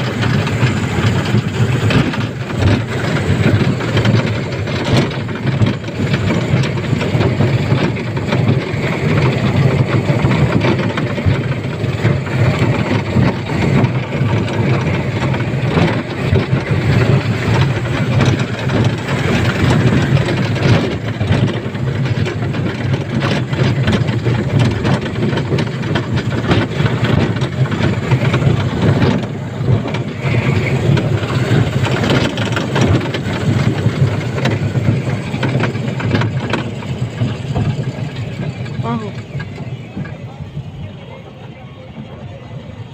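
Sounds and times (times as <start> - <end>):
train low rumble: 0.0 - 42.9.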